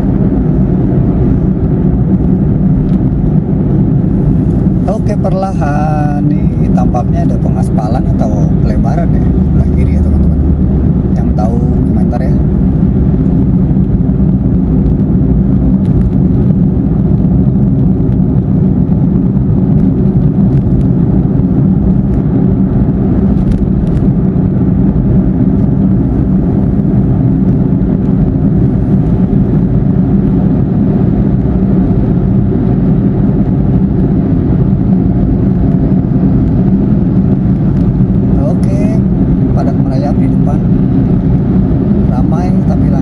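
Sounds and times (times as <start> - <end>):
car interior road rumble: 0.0 - 43.0.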